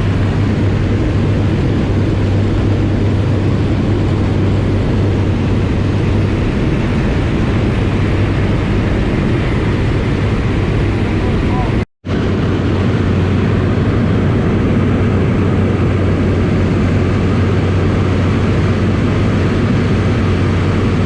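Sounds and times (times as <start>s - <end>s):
propeller engine drone: 0.0s - 21.0s.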